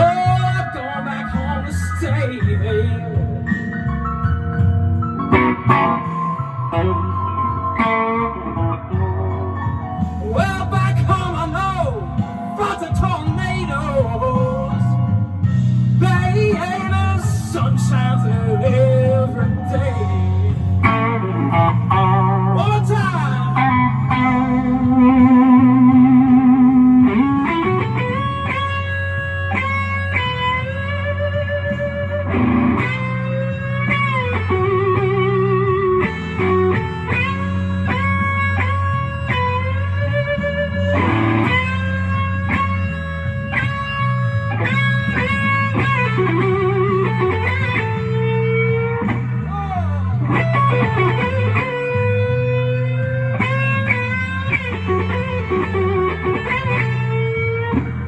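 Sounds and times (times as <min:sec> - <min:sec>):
electric guitar blues lead: 0:00.0 - 0:58.0
low bass line: 0:00.0 - 0:58.0.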